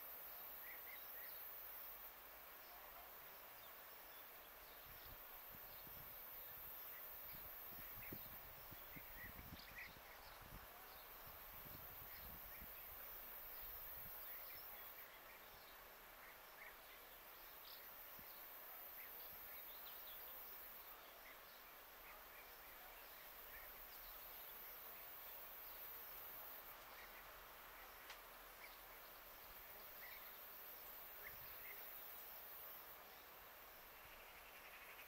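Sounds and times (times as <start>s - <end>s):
faint small bird chirps: 2.6s - 35.0s.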